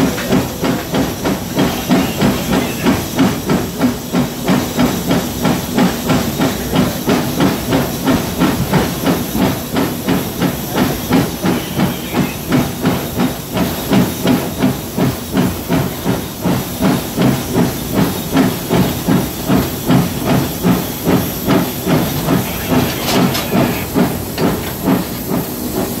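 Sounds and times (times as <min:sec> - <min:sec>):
steam hissing: 0:00.0 - 0:26.0
steam locomotive exhaust beats: 0:00.0 - 0:26.0.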